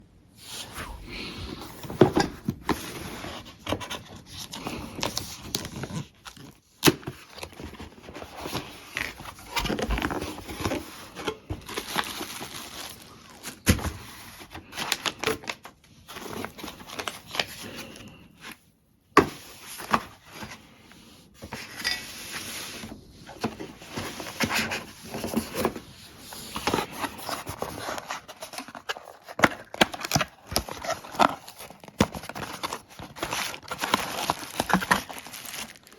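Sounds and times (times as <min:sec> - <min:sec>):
packaging rustling and tearing: 0:01.7 - 0:18.6, 0:22.2 - 0:35.9.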